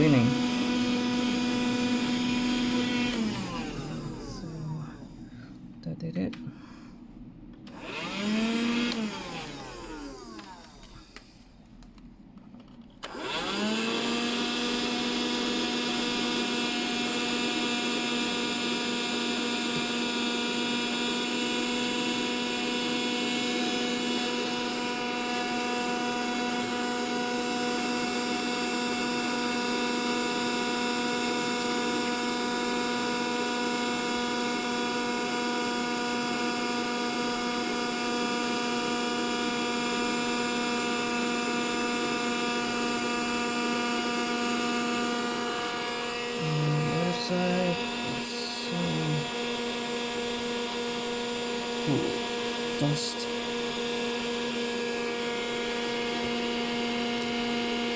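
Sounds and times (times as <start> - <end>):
small vacuum cleaner whine: 0.0 - 5.8, 6.5 - 12.0, 12.6 - 57.9.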